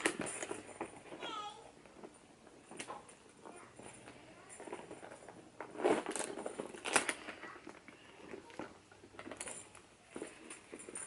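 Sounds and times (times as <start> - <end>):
metal chain strap clinking: 0.0 - 7.5, 8.2 - 11.0
leather rustling: 1.8 - 11.0.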